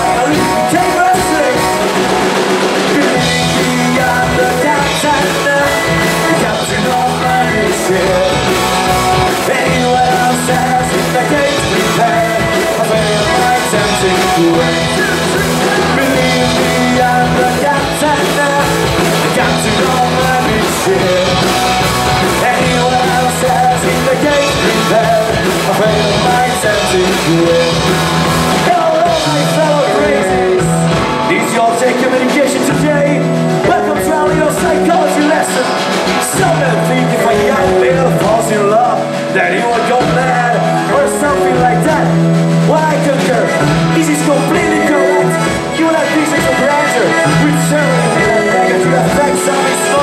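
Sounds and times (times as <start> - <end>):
man singing into a microphone: 0.0 - 2.0, 2.6 - 50.0
live rock band playing: 0.0 - 50.0.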